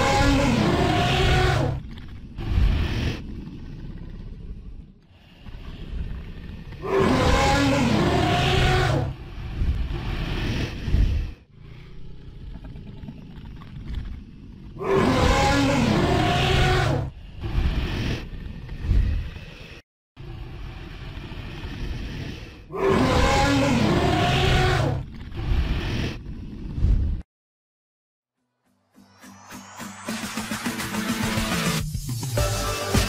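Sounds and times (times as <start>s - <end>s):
creature roars: 0.0s - 26.7s
low rumbling and growling: 0.0s - 27.3s.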